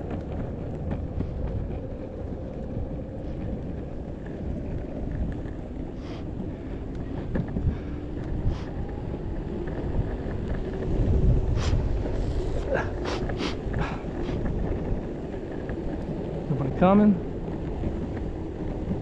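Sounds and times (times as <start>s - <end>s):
electric skateboard rolling rumble: 0.0s - 19.0s
wind buffeting microphone: 0.0s - 19.0s.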